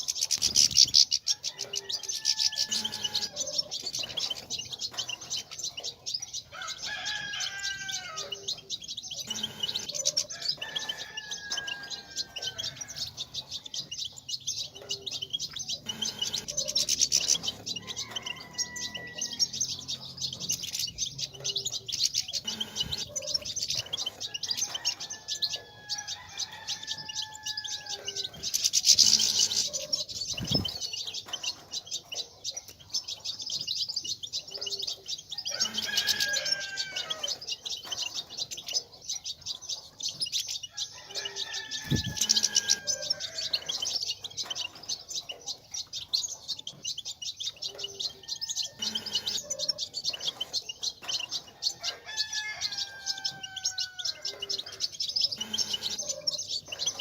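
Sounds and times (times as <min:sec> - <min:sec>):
drawn-out whistled bird calls: 0:00.0 - 0:57.0
finches twittering chatter: 0:00.0 - 0:57.0.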